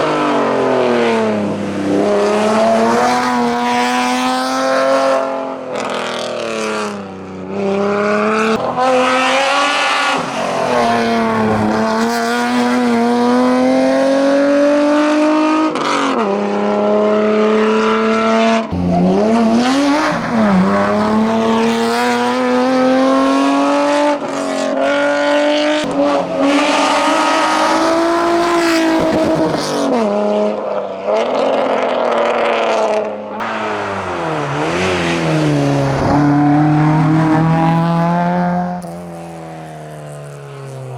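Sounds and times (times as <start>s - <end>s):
racing car engine revving: 0.0s - 40.9s.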